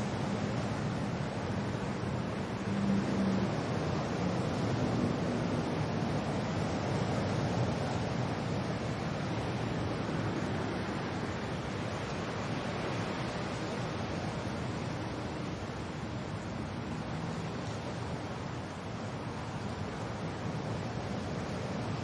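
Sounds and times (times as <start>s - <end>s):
wind and rain rushing: 0.0s - 22.0s.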